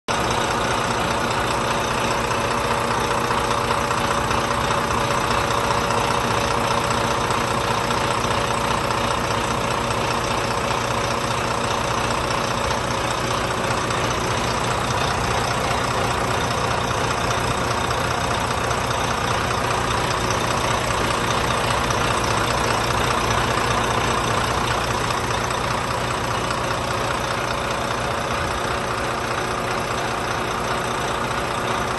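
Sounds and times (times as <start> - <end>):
diesel engine idling: 0.1 - 31.9.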